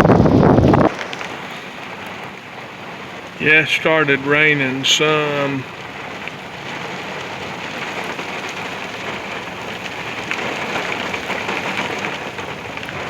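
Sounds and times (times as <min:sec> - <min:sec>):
rain hissing on surfaces: 0:00.0 - 0:13.0.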